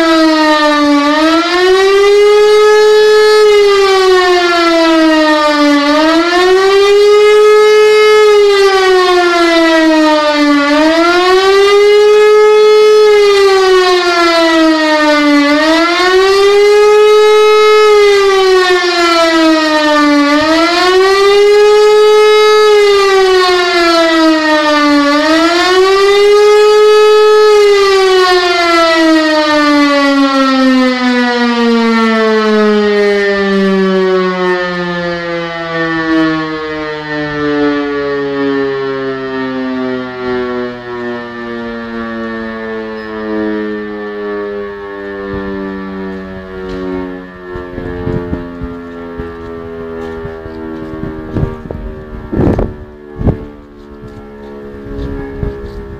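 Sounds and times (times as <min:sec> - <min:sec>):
wailing civil defence siren: 0:00.0 - 0:55.9.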